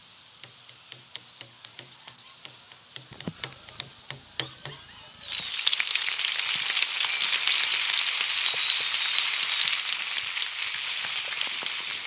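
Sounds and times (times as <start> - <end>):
dense crackling patter of clicks: 0.0 - 12.0.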